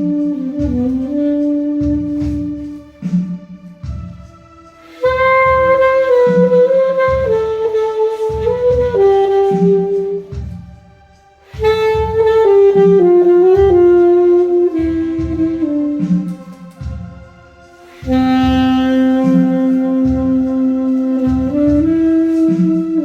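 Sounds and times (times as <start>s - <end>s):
alto saxophone playing: 0.0s - 23.0s
backing track with low pulse: 0.0s - 23.0s.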